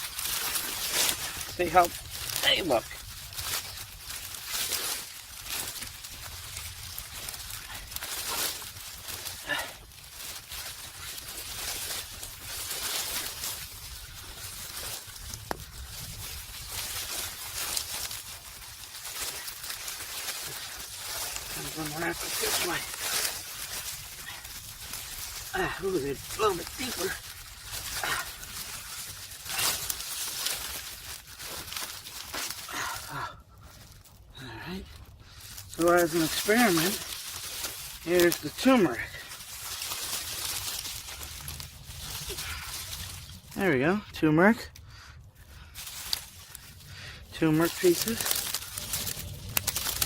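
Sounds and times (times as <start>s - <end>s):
soil and bags rustling by hand: 0.0s - 50.0s.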